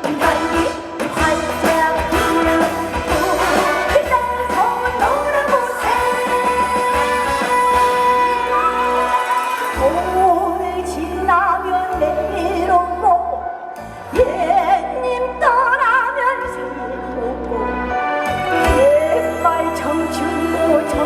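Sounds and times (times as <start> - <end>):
backing track with bass: 0.0 - 21.0
woman singing with vibrato: 0.0 - 21.0.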